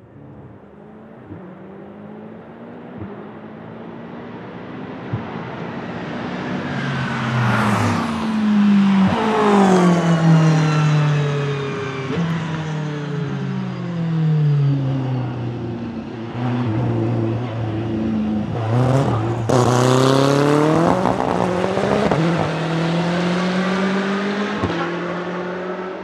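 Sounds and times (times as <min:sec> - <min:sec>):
race car passing by: 0:04.1 - 0:26.0.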